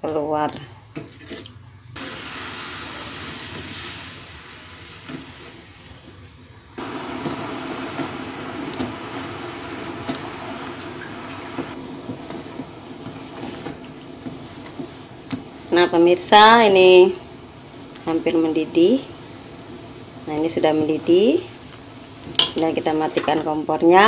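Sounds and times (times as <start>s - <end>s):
drink seething in a pan: 1.0s - 24.0s.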